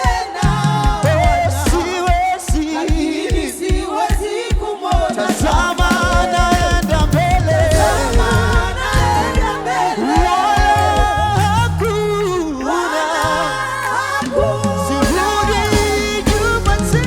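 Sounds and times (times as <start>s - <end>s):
gospel singers with band: 0.0s - 17.0s.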